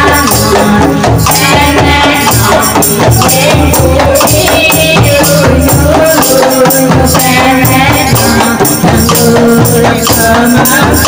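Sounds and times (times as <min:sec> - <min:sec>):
deep drum beats: 0:00.0 - 0:11.0
frame drums with jingles: 0:00.0 - 0:11.0.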